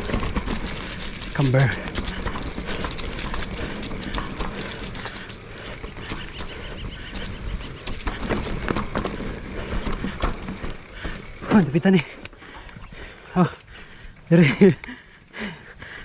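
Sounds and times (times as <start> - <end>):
bike tyres rumbling over stones: 0.0 - 13.1
bike knocking and rattling: 0.0 - 16.0
constant rushing noise: 0.0 - 16.0.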